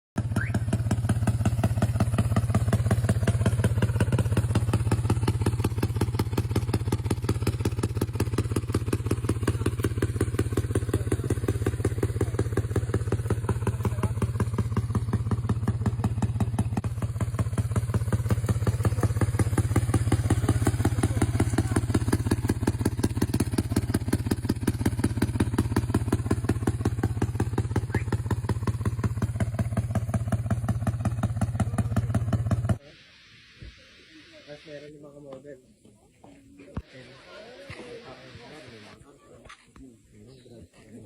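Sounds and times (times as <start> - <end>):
scooter engine idling: 0.2 - 32.9, 36.7 - 41.0.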